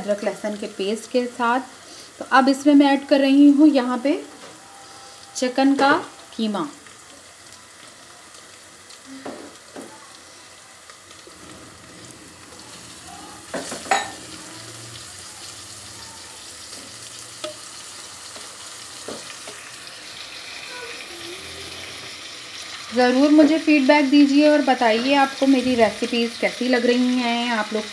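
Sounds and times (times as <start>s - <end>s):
meat sizzling in a pot: 0.0s - 27.9s.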